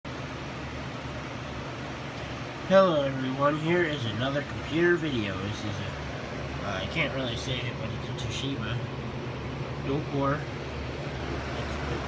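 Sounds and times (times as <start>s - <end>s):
steady background hum and hiss: 0.1s - 12.0s.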